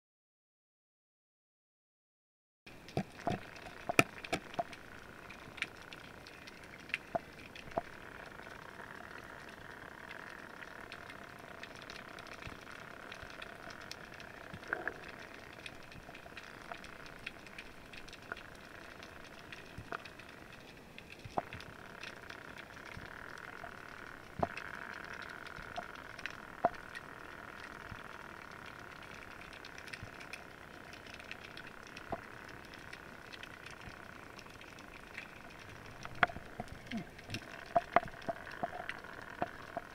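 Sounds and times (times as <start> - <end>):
sharp clicks and crackles: 2.7 - 39.9.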